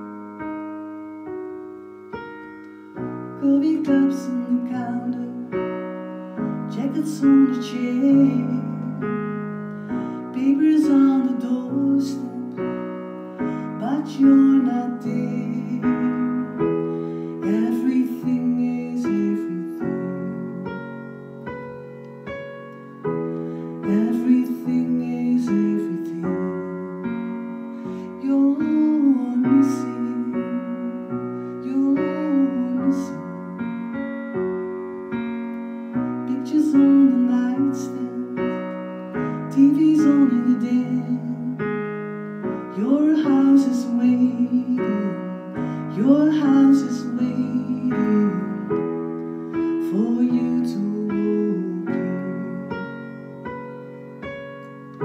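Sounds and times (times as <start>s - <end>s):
keyboard piano chords: 0.0s - 55.0s.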